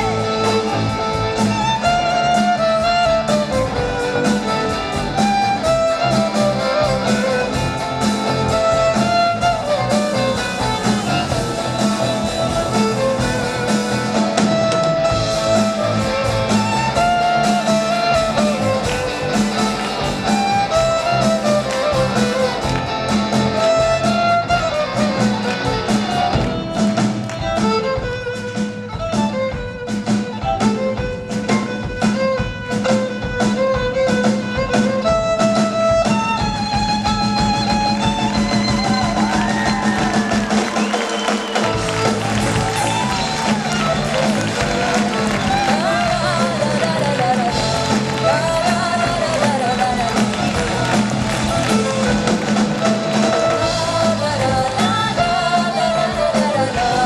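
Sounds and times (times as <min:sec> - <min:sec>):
drum hits: 0:00.0 - 0:55.3
rock band playing live: 0:00.0 - 0:57.0.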